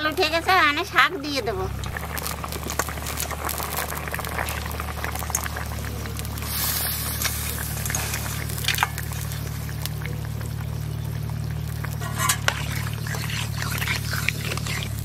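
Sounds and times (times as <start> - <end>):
broth bubbling and popping: 0.0 - 15.0
steady low hum: 0.0 - 15.0.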